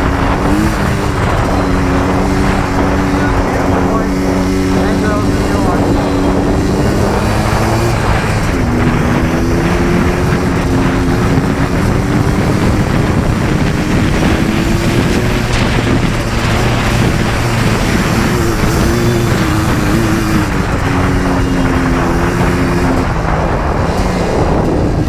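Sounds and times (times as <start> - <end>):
atv engine running: 0.0 - 25.0
wind buffeting microphone: 0.0 - 25.0.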